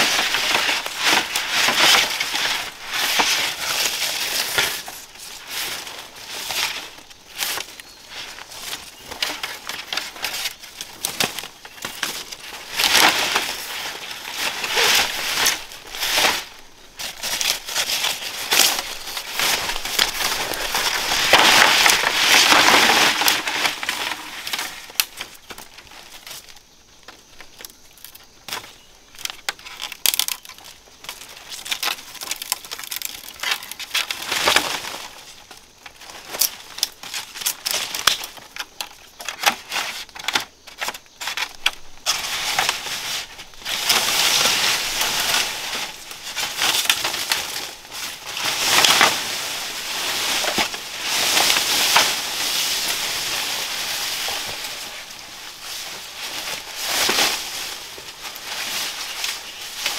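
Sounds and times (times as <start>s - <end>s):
crackles and clicks: 0.0s - 59.9s
rustling and crunching: 0.0s - 59.9s.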